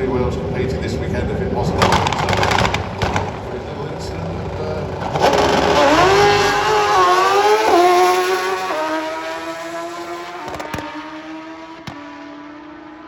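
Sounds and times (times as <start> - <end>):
drag racing motorcycle accelerating: 0.0 - 13.0.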